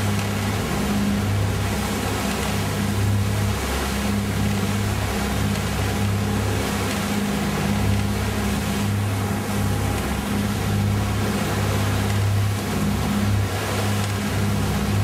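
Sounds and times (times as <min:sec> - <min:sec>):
boat engine humming: 0:00.0 - 0:15.0
wind and water rushing: 0:00.0 - 0:15.0.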